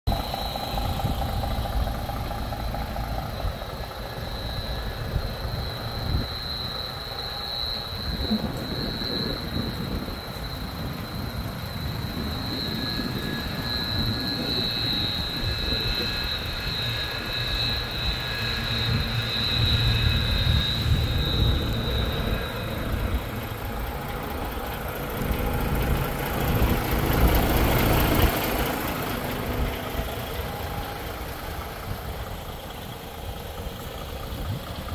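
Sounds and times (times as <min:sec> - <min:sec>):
diesel truck engine idling: 0:00.1 - 0:34.9
high whine: 0:00.1 - 0:34.9.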